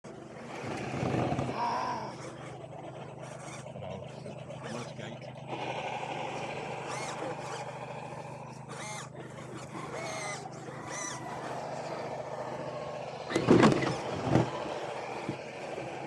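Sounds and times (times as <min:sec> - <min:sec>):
electric motor and gears whining: 0:00.0 - 0:16.0.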